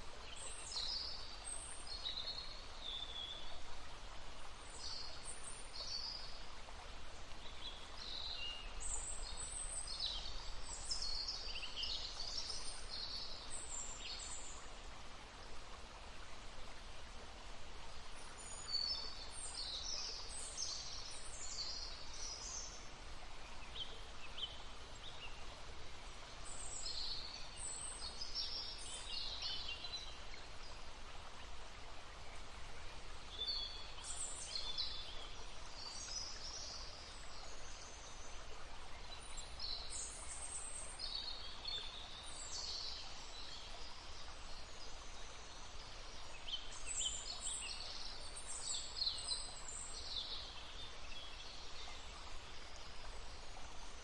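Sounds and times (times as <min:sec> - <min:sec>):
babbling stream: 0:00.0 - 0:54.0
songbirds chirping: 0:00.0 - 0:54.0.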